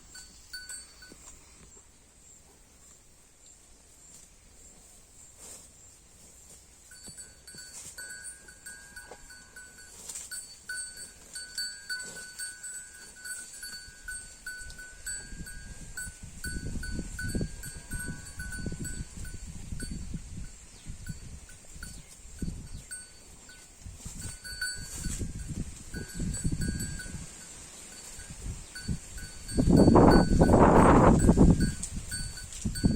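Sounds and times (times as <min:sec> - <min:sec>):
cow tearing and chewing grass: 0:00.0 - 0:01.9, 0:04.0 - 0:32.9.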